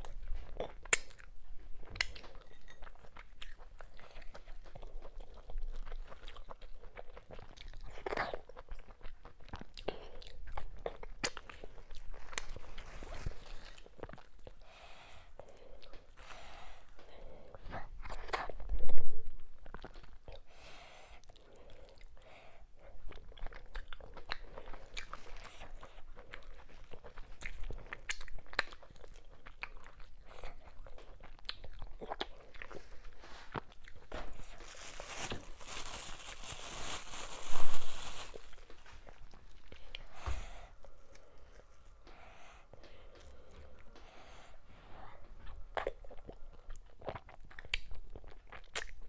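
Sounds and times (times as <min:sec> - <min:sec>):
person chewing: 0:00.0 - 0:14.7, 0:22.9 - 0:49.0.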